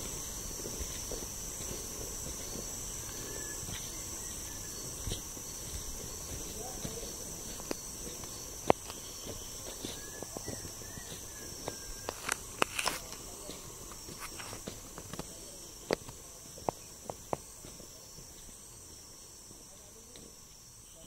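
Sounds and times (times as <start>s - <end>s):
footsteps on forest trail: 0.0s - 21.0s
insect chorus: 0.0s - 21.0s.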